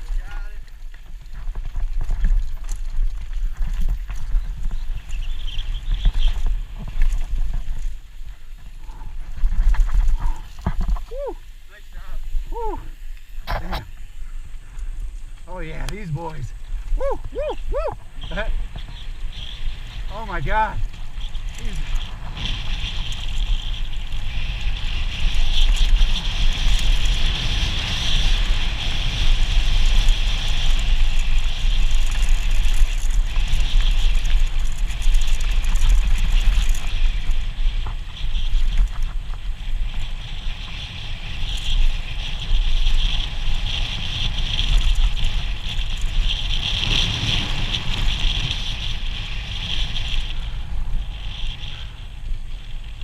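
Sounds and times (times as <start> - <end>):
mountain bike rattle: 0.0 - 53.0
wind buffeting microphone: 0.0 - 53.0.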